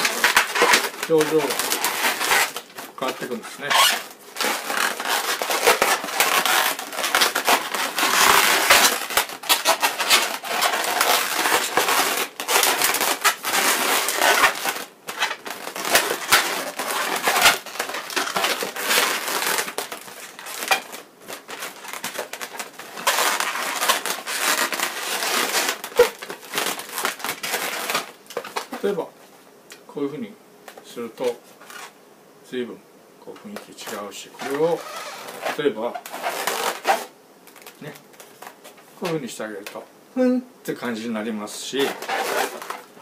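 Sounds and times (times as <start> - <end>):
balloons rubbing and crinkling: 0.0 - 29.2, 31.2 - 32.0, 33.4 - 39.8, 40.8 - 43.0.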